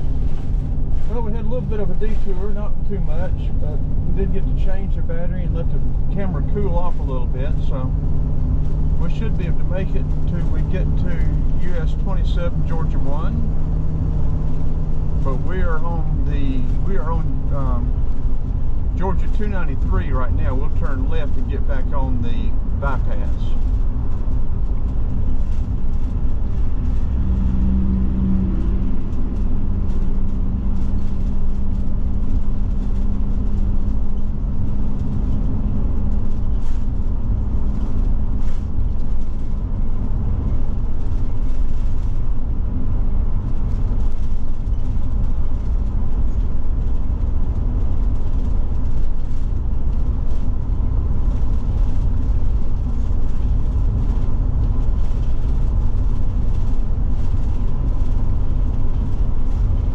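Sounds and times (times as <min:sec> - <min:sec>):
engine and road noise: 0:00.0 - 0:59.9
low engine drone: 0:00.0 - 0:59.9.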